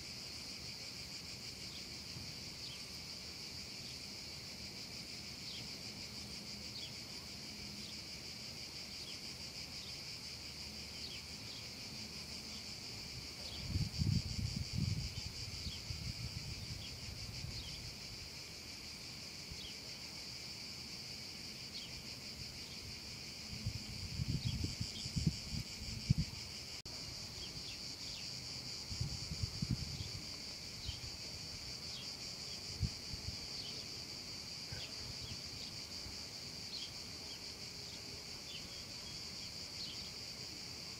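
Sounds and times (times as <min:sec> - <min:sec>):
cicadas chorus: 0:00.0 - 0:40.9.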